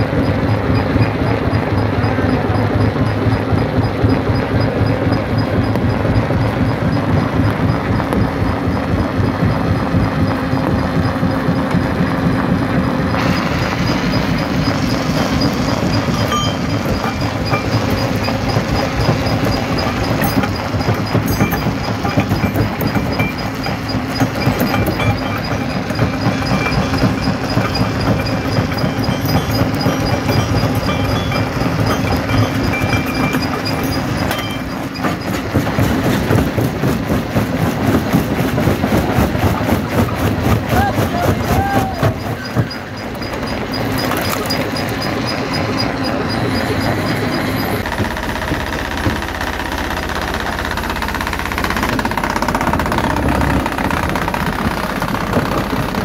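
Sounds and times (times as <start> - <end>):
rock crusher rumbling: 0.0 - 56.0.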